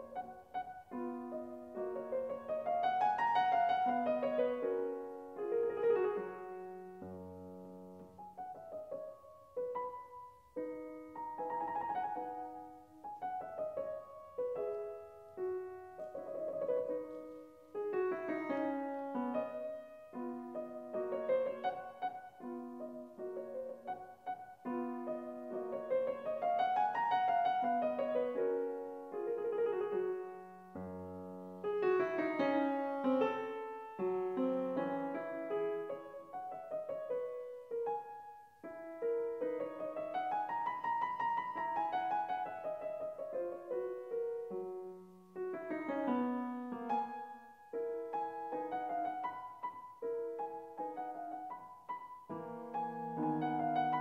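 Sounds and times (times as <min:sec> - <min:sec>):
solo classical piano: 0:00.0 - 0:54.0.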